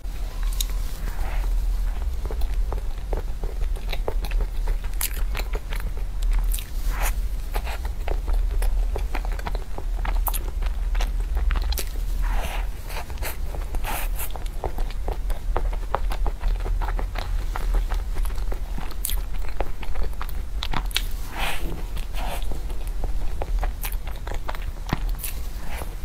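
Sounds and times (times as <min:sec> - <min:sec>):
steady low hum: 0:00.0 - 0:26.0
chewing and mouth smacks: 0:00.6 - 0:26.0.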